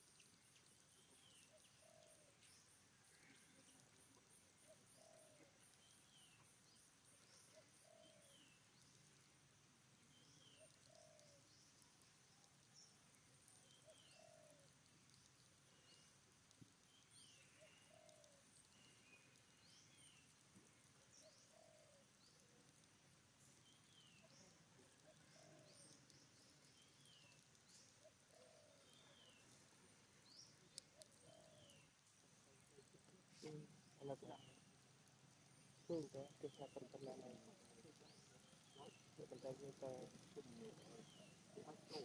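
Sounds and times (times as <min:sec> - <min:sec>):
faint clicks: 0:00.1 - 0:09.4, 0:10.0 - 0:28.7, 0:30.6 - 0:42.0.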